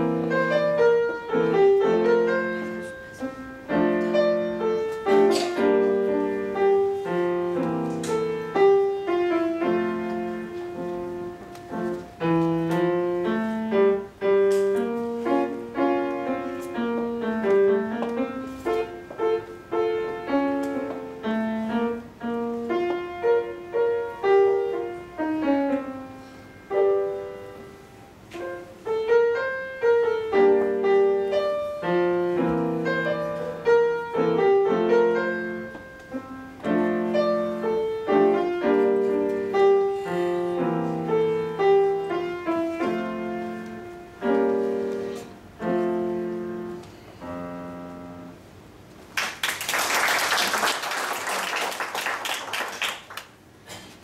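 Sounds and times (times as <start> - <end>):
solo grand piano: 0.0 - 54.0.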